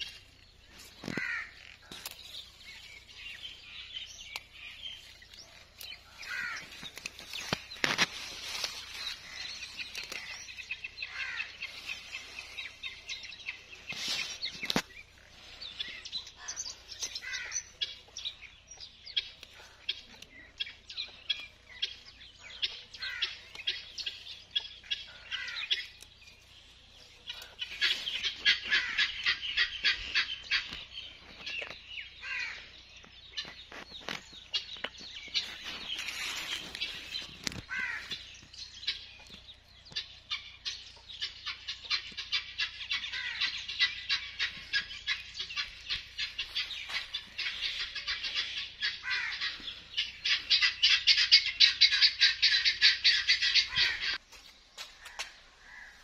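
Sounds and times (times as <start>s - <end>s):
chickens clucking: 0.0s - 56.0s
small birds chirping: 0.0s - 56.0s.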